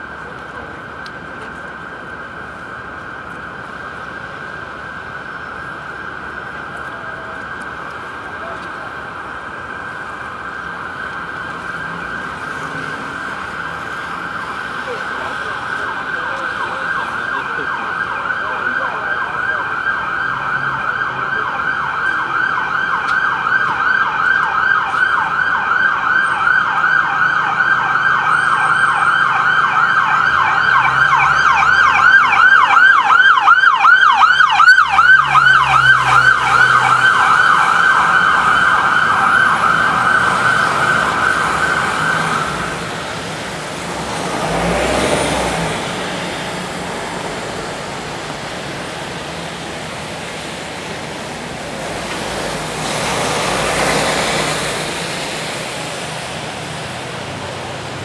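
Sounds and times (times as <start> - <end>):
emergency siren yelping: 0.0 - 58.0.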